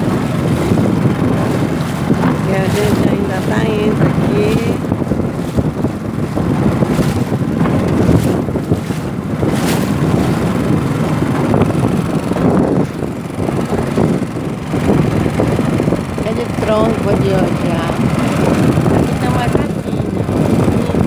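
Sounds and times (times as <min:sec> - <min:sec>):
water splashing: 0:00.0 - 0:21.0
wind buffeting microphone: 0:00.0 - 0:21.0.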